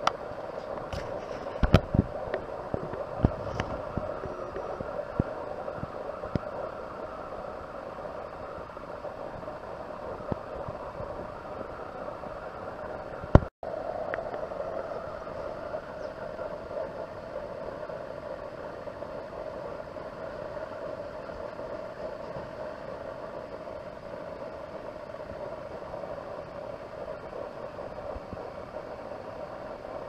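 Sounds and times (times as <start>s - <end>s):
outdoor hum and hiss: 0.0s - 30.0s.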